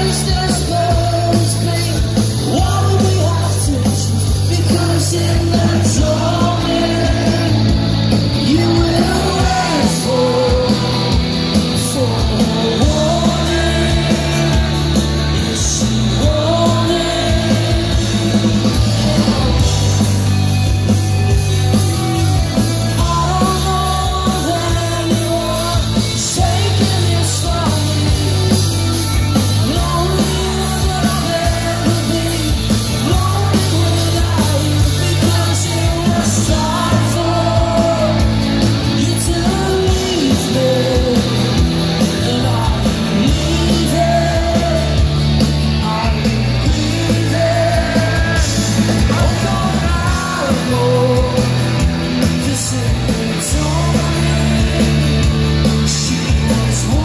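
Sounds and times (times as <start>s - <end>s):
bass guitar: 0.0s - 57.0s
drums: 0.0s - 57.0s
lead singer singing: 0.0s - 57.0s.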